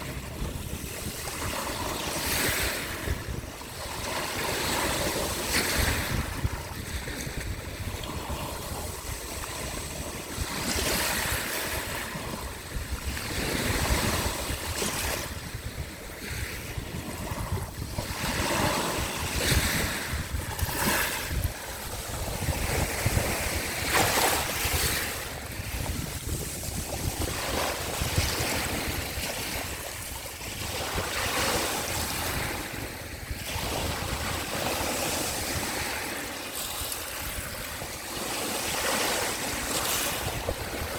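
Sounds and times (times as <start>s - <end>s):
small waves breaking on shore: 0.0s - 40.9s
wind rumbling on microphone: 0.0s - 40.9s.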